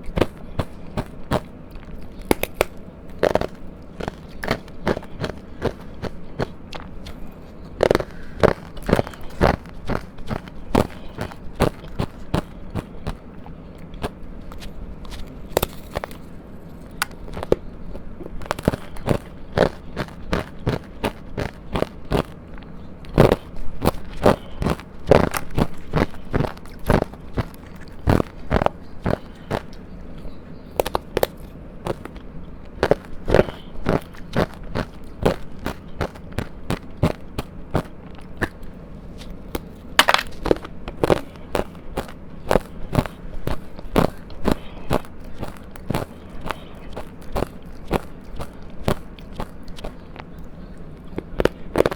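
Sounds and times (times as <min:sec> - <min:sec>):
ice crunching while chewed: 0:00.0 - 0:51.9.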